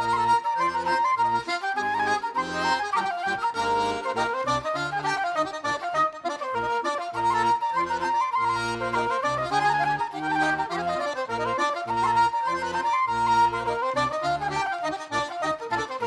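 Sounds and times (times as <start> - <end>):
accordion dance tune: 0.0 - 16.0.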